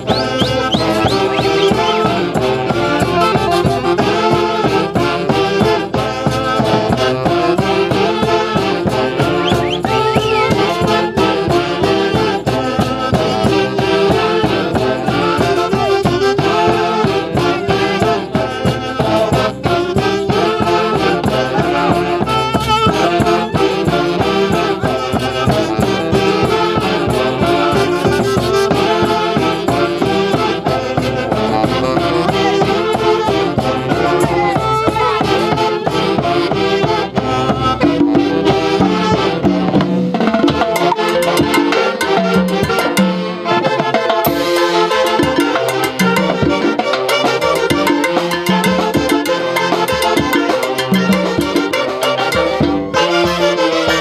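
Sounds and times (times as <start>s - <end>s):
drum kit and percussion beat: 0.0s - 54.0s
saxophones and clarinets melody: 0.0s - 54.0s.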